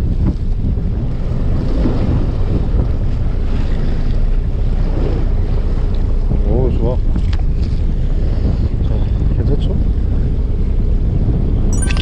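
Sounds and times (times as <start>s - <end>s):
waves washing against hull: 0.0s - 11.7s
wind buffeting microphone: 0.0s - 11.8s.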